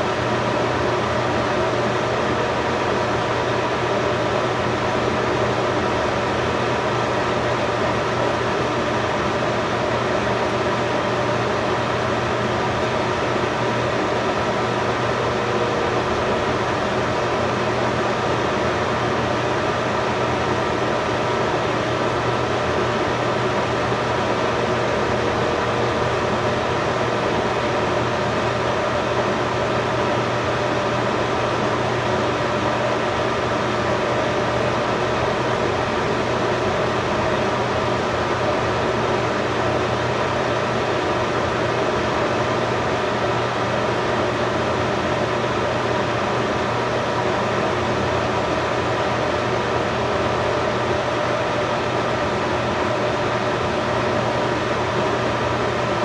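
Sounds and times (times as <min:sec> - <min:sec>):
machine hum with hiss: 0:00.0 - 0:56.0.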